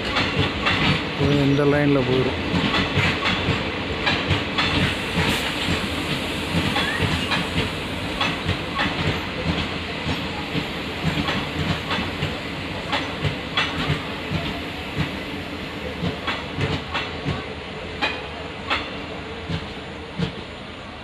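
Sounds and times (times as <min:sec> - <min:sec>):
train wheels clacking over rail joints: 0:00.0 - 0:20.4
train rumble: 0:00.0 - 0:21.0.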